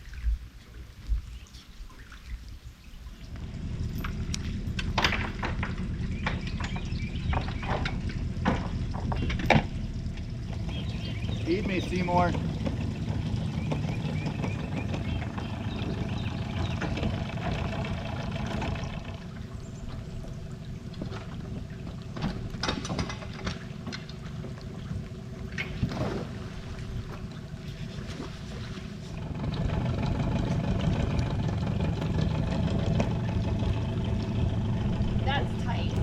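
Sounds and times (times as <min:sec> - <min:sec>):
boat engine idling: 0:03.3 - 0:36.0.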